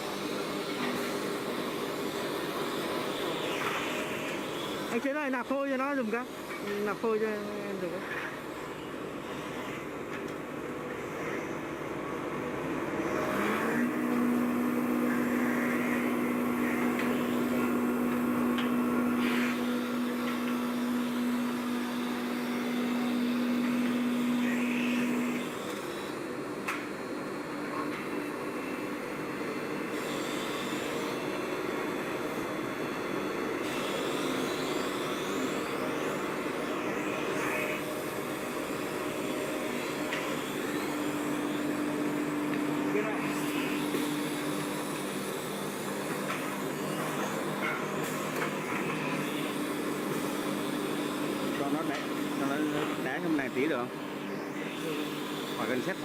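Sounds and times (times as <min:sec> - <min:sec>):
wood lathe machine hum: 0:00.0 - 0:56.0.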